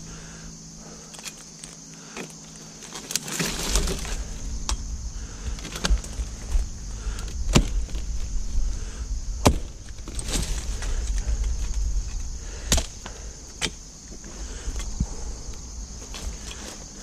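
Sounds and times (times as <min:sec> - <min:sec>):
blade chopping vines and weeds: 0:01.0 - 0:17.0.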